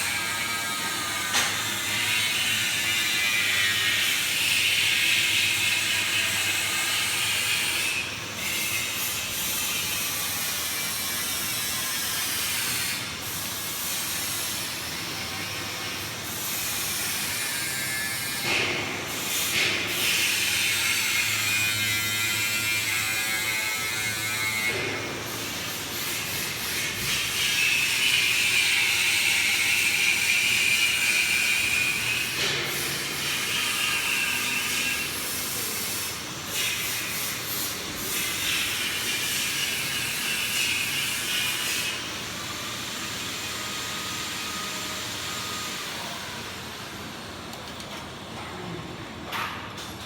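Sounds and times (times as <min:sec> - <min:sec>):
machine hissing and whirring: 0:00.0 - 0:48.3.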